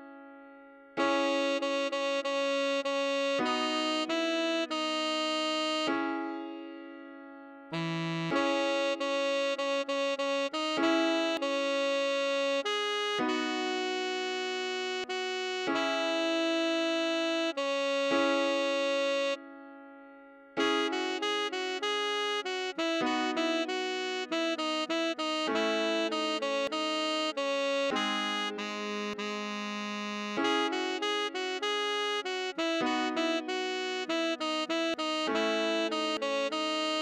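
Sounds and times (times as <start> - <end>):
slow synthesized keyboard melody: 0.0 - 37.0.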